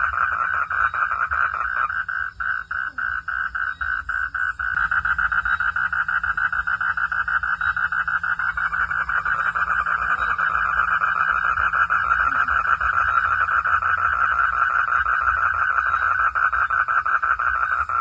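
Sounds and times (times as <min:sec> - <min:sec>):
faint low hum: 0:00.0 - 0:18.0
frogs calling in chorus: 0:00.0 - 0:18.0.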